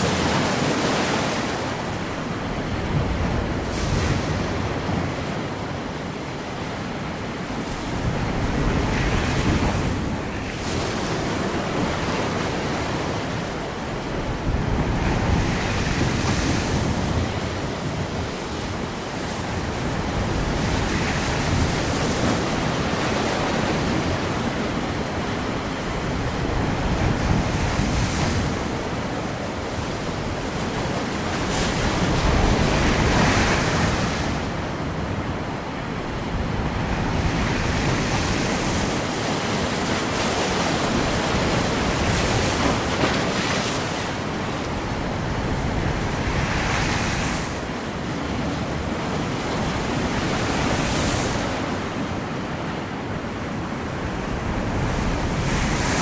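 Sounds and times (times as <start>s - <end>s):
waves breaking: 0.0s - 56.0s
wind: 0.0s - 56.0s.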